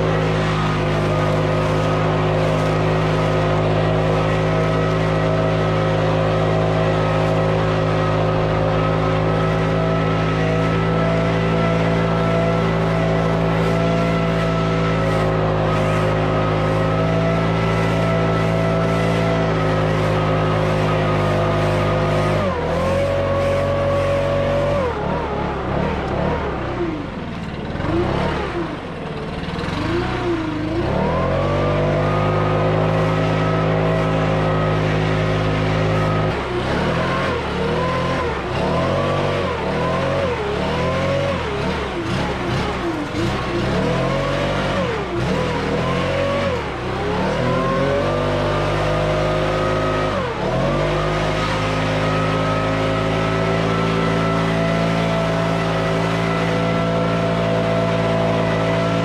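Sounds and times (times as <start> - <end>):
leaf blower engine running: 0.0 - 59.0.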